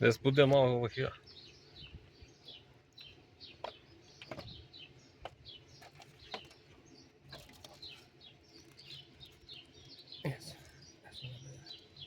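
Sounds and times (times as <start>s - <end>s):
small bird chirping: 0.5s - 12.0s.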